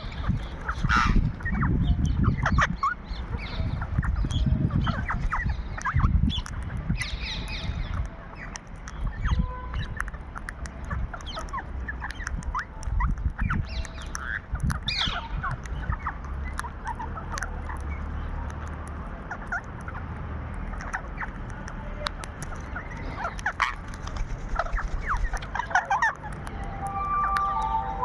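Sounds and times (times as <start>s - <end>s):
parrots squawking and chirping: 0.0s - 28.0s.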